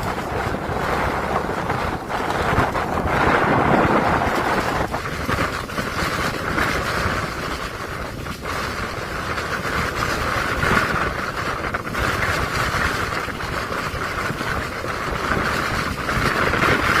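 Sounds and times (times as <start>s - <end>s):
strong wind rushing: 0.0s - 17.0s
wind buffeting microphone: 0.0s - 17.0s.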